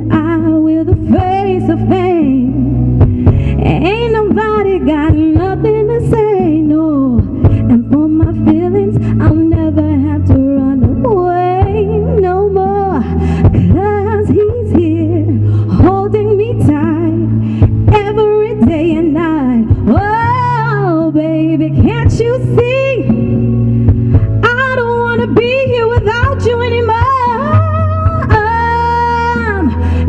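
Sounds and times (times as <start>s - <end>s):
sustained low bass notes: 0.0s - 30.0s.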